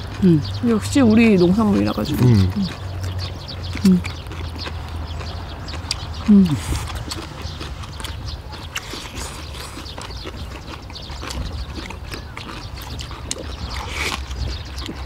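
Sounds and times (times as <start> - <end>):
people chewing and smacking: 0.0 - 15.0.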